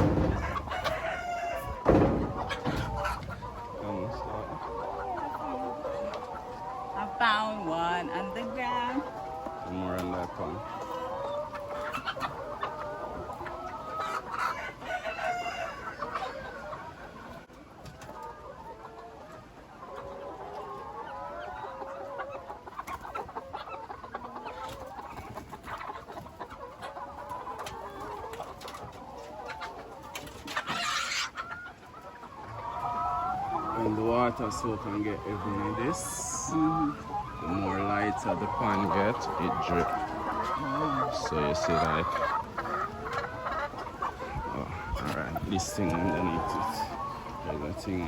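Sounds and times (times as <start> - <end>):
hens clucking: 0.0 - 48.0.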